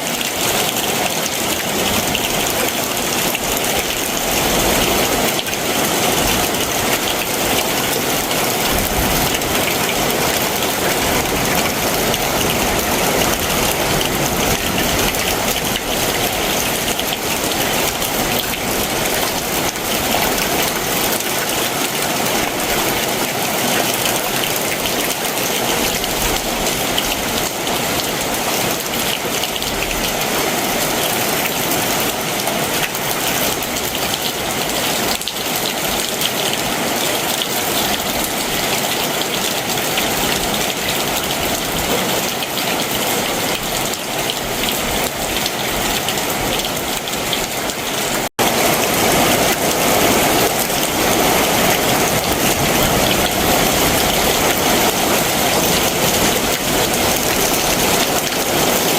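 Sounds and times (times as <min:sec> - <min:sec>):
heavy rain pattering: 0:00.0 - 0:58.9.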